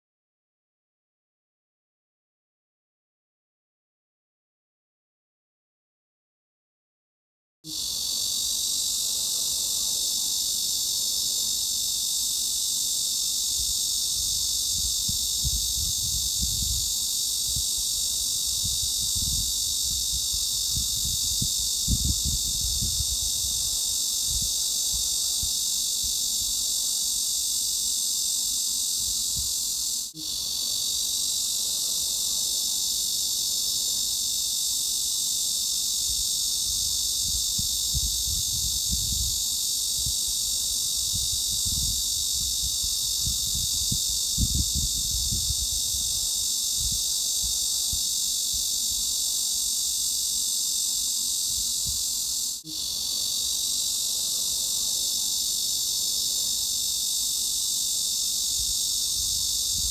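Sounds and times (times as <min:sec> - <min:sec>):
cicadas buzzing: 0:07.7 - 0:59.9.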